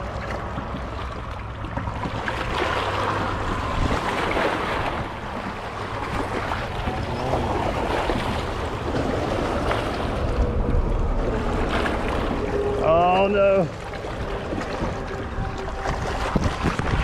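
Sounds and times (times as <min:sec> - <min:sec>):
small waves washing against rocks: 0:00.0 - 0:17.0
wind buffeting microphone: 0:00.0 - 0:17.0.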